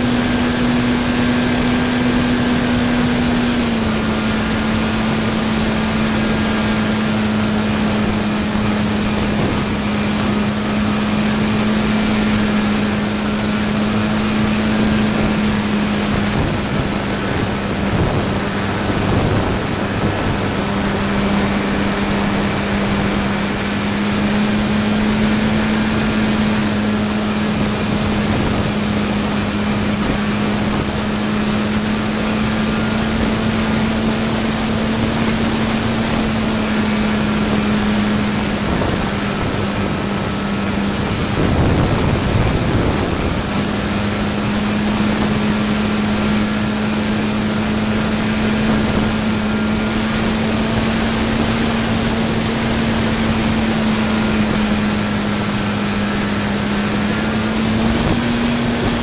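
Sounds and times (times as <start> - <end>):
model plane motor droning: 0.0 - 59.0
rushing airflow: 0.0 - 59.0.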